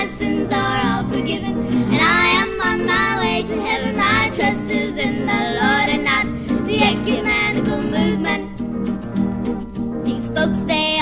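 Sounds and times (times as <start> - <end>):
girls singing: 0.0 - 8.6, 10.1 - 11.0
instrumental backing music: 0.0 - 11.0.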